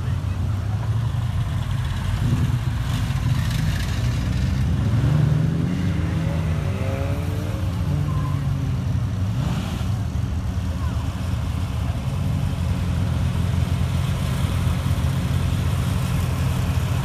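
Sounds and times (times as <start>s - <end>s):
car engine running and revving: 0.0s - 17.0s.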